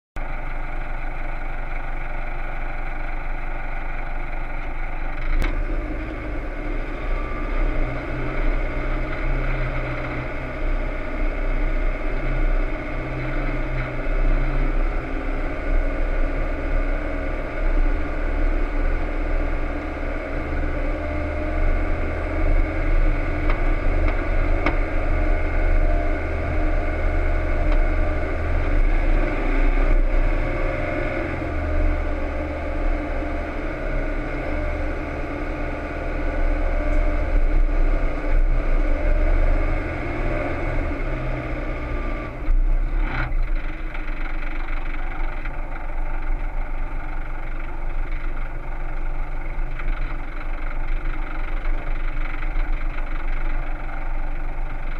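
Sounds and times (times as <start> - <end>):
diesel engine rumbling: 0.2 - 54.9.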